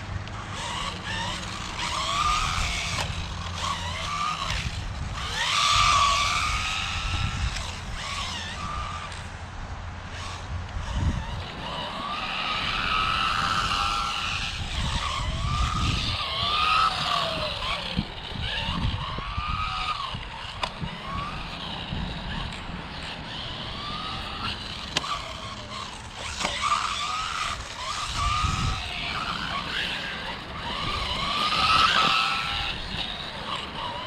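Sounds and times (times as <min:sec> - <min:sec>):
electric motor whine: 0:00.0 - 0:34.0.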